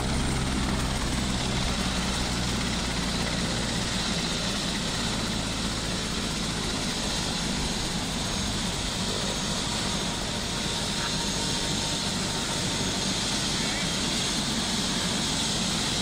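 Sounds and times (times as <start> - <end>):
helicopter rotor and turbine whine: 0.0 - 16.0.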